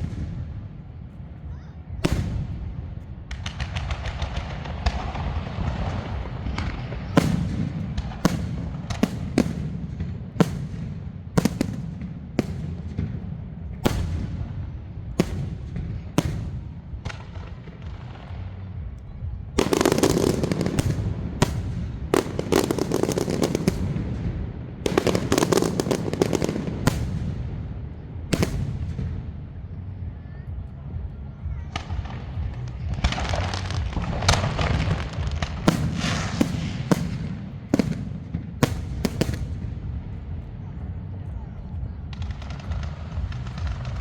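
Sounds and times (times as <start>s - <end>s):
firecracker sharp bangs: 0.0s - 0.9s, 2.0s - 18.9s, 19.6s - 29.6s, 31.8s - 40.3s
low rumble: 0.0s - 44.0s.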